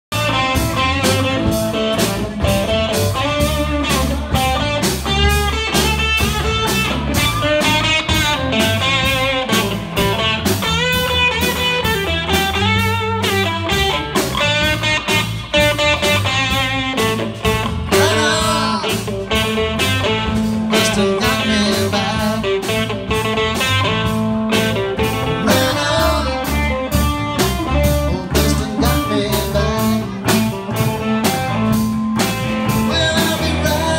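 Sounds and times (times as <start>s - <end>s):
drums keeping steady beat: 0.1s - 33.9s
electric guitars: 0.1s - 33.9s.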